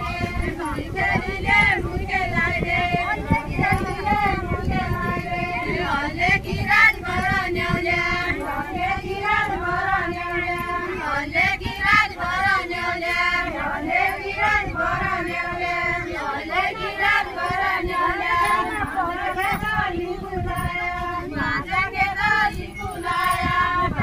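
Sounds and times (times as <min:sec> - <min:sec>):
group of women singing: 0:00.0 - 0:24.0.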